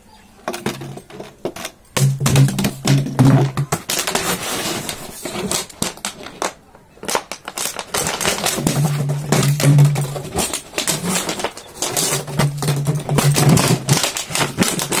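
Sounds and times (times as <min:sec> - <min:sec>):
plastic bottle clattering on concrete: 0:00.5 - 0:15.0.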